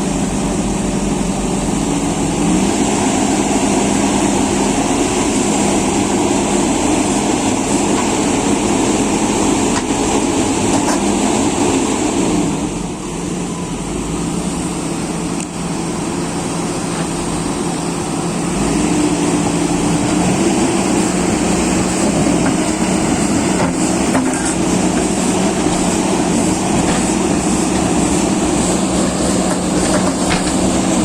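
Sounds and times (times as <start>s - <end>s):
excavator diesel engine running: 0.0s - 31.0s
hydraulic working noise: 1.5s - 31.0s.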